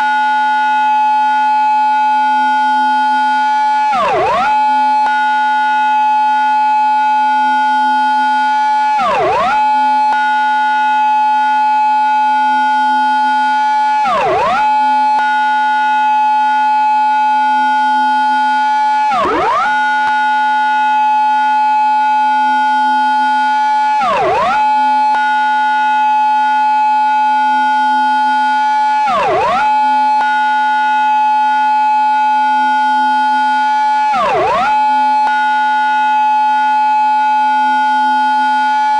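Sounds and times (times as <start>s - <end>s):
police car siren wail: 0.0s - 38.9s.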